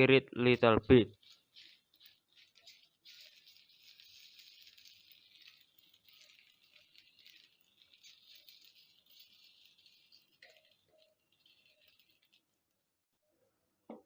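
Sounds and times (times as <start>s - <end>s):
omelette sizzling in a pan: 1.2s - 13.1s.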